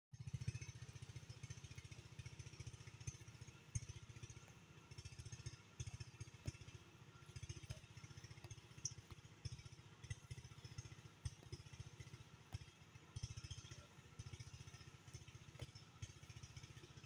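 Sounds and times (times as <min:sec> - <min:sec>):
distant small engine running: 0:00.2 - 0:17.0.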